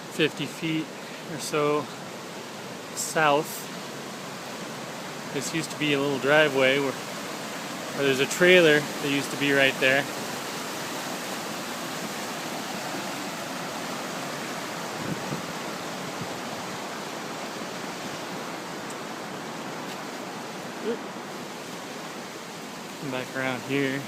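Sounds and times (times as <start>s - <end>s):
fast-flowing river rushing: 0.0s - 24.0s.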